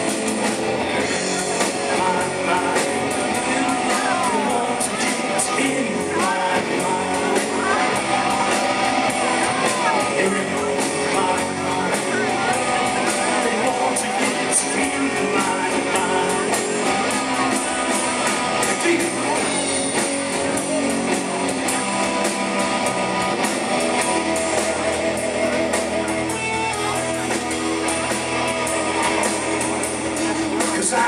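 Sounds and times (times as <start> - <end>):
drum kit with cymbal hits: 0.0 - 31.0
electric guitars and bass: 0.0 - 31.0.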